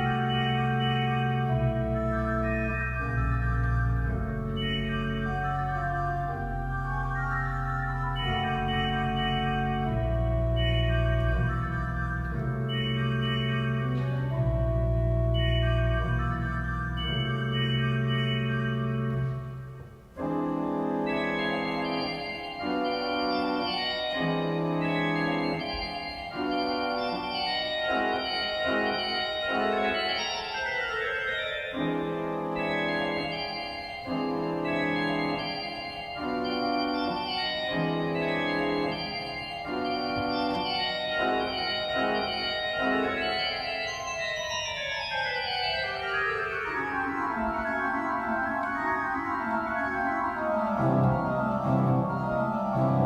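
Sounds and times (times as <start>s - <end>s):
church organ chords: 0.0s - 53.0s.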